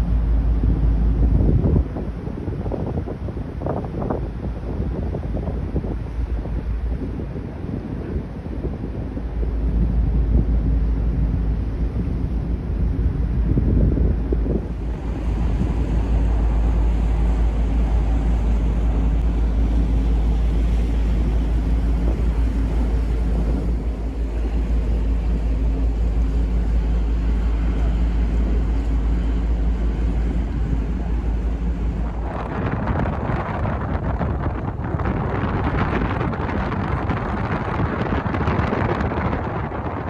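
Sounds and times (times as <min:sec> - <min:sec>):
ferry engines rumbling: 0:00.0 - 0:40.0
wind buffeting microphone: 0:00.0 - 0:40.0.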